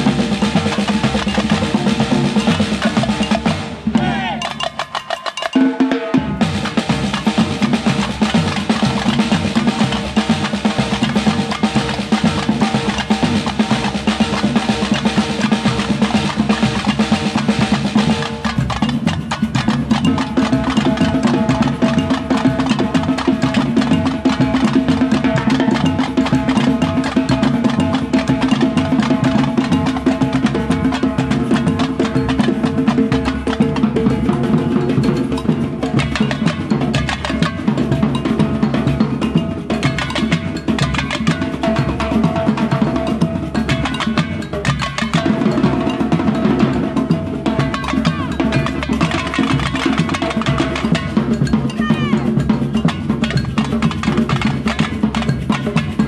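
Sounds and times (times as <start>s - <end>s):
samba percussion band: 0.0s - 56.0s.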